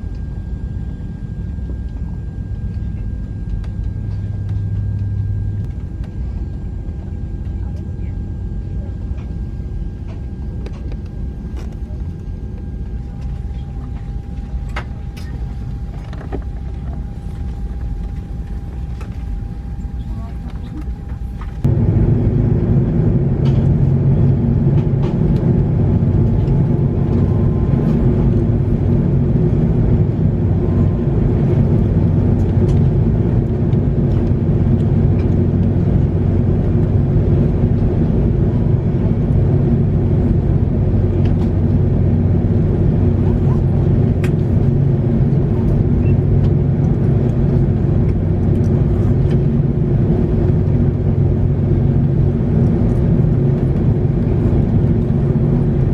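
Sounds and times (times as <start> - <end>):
engine drone: 0.0 - 55.9.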